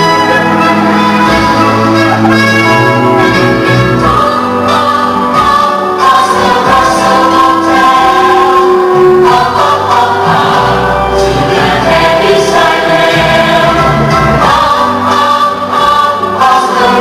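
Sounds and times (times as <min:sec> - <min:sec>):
choir singing held notes: 0:00.0 - 0:17.0.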